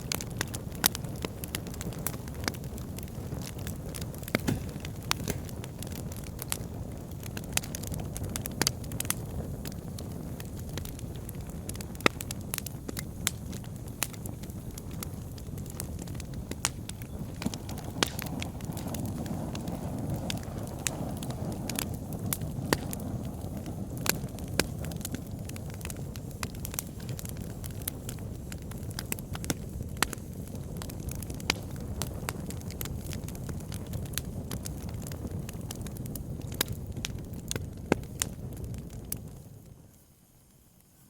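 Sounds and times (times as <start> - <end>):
fire flames rumbling: 0.0 - 40.6
wood crackling and popping: 0.0 - 41.0.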